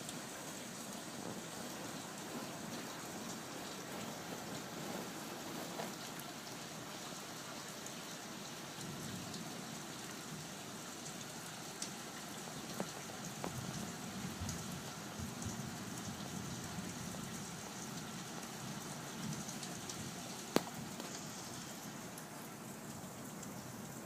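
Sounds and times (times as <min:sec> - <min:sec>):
rain falling on a roof: 0:00.0 - 0:24.0.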